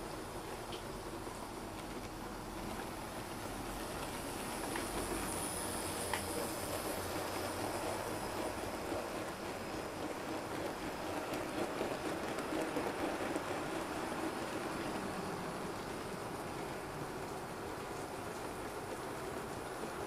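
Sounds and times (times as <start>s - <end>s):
model train wheels rattling: 0.0s - 20.0s.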